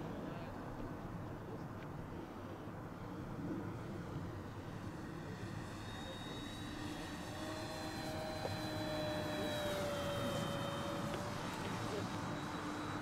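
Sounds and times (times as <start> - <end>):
model airplane propeller whine: 0.0 - 13.0.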